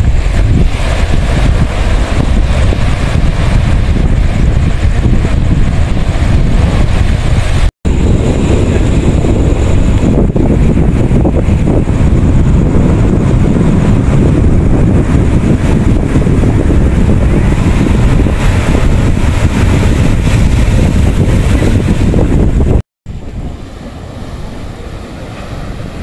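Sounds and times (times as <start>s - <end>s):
waves breaking on rocks: 0.0s - 26.0s
wind buffeting microphone: 0.0s - 26.0s.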